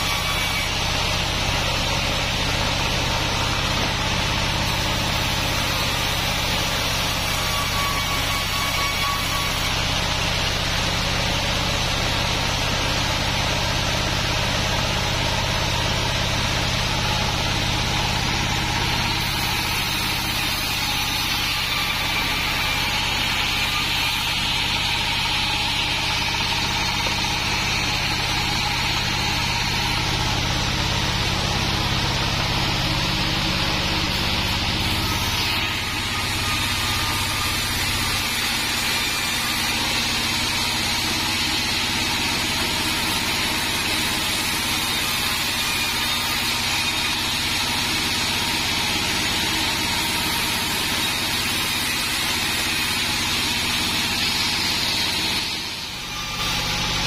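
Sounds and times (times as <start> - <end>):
band saw cutting through log: 0.0 - 57.0.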